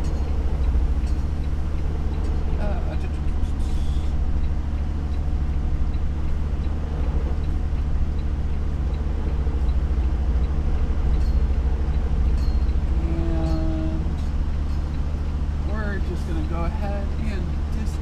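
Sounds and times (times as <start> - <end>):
diesel engine idling: 0.0 - 18.0
faint regular ticking: 0.0 - 18.0.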